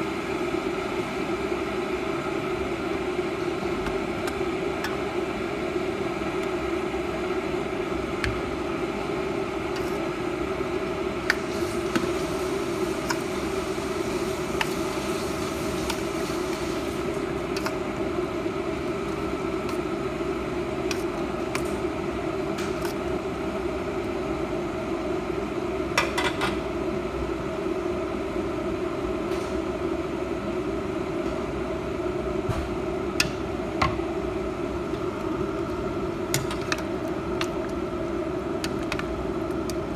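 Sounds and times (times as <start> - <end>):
machine hum: 0.0 - 26.0, 29.9 - 39.9.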